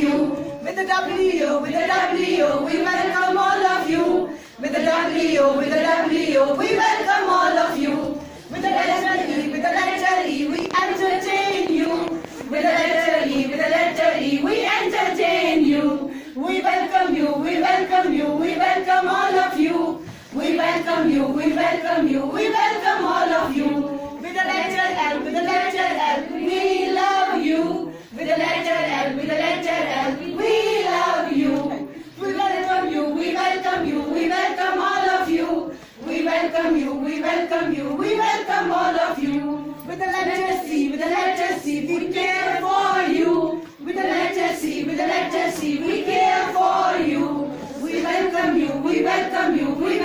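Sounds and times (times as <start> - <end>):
children singing in unison: 0.0 - 50.0.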